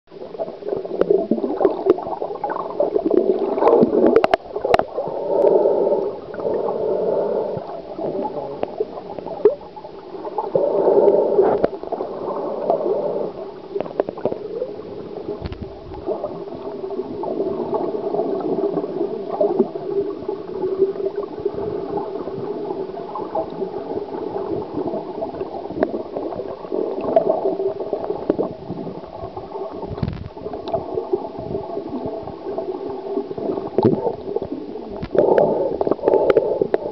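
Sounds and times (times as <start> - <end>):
underwater gurgling and sloshing: 0.1 - 36.9.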